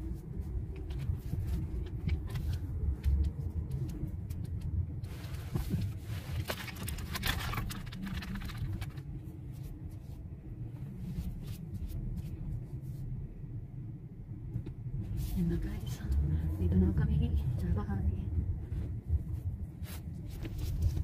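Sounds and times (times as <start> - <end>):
car rumble from inside cabin: 0.0 - 21.0.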